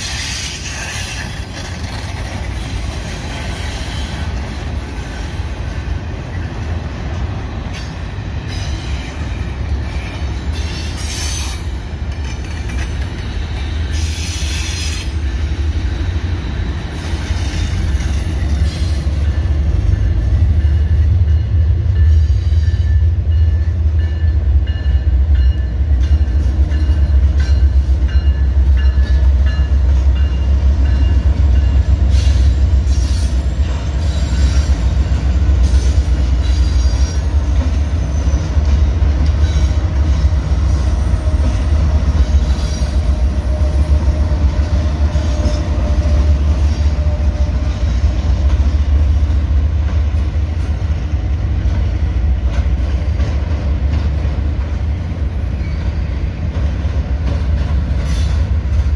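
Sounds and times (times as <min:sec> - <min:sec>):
diesel locomotives rumbling: 0:00.0 - 0:58.9
train wheels rumbling on rail: 0:00.0 - 0:58.9.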